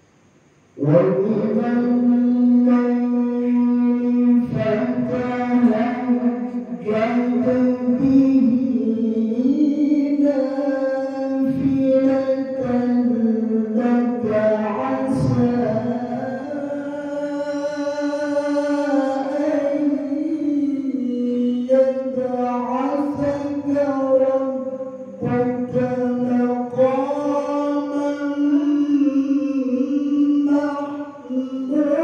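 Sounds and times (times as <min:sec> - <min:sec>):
man reciting melodically: 0:00.1 - 0:32.0.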